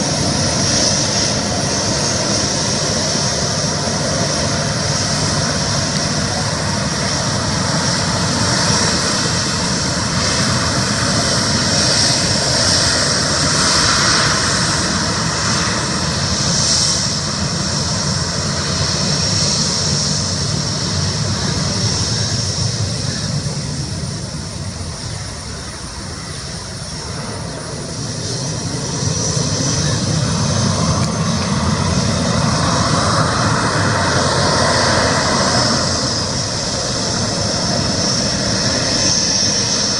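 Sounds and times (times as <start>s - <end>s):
jet engines running with whine: 0.0s - 39.9s.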